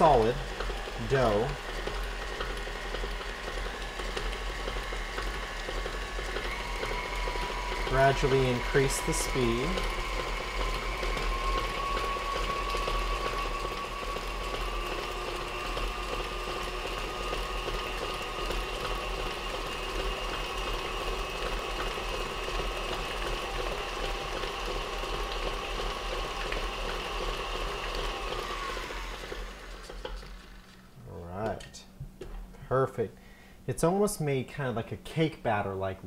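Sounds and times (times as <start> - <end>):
stand mixer motor whine: 0.0 - 31.6.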